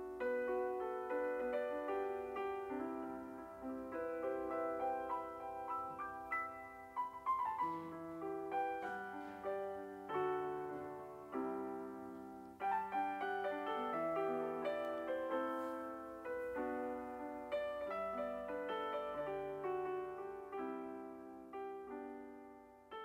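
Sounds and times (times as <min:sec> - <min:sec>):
slow piano music: 0:00.0 - 0:23.0.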